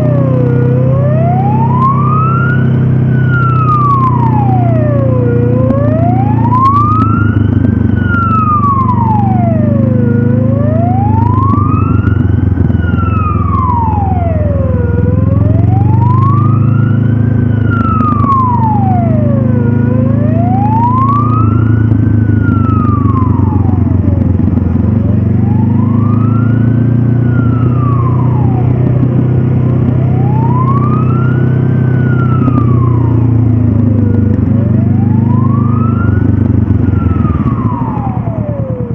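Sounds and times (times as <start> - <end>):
motorcycle engine running: 0.0 - 38.9
siren wailing: 0.0 - 38.9.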